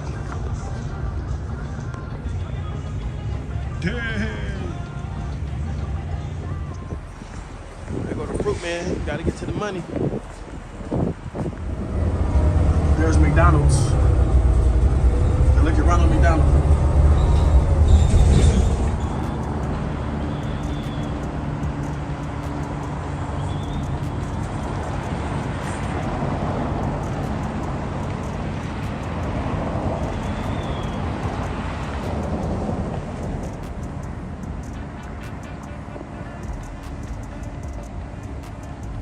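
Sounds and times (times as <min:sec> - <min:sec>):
passing traffic hum: 0:00.0 - 0:39.0
vehicle engine rumble: 0:00.0 - 0:39.0.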